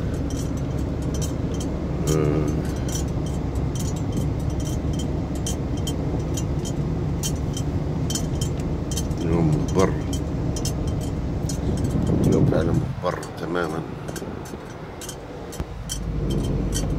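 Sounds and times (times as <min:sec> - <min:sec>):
car driving rumble inside cabin: 0:00.0 - 0:16.9.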